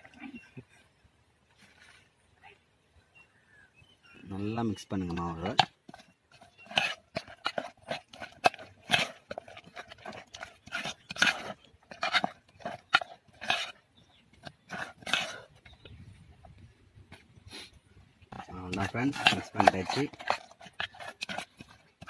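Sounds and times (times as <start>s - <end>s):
spoon stirring thick batter: 4.3s - 22.0s.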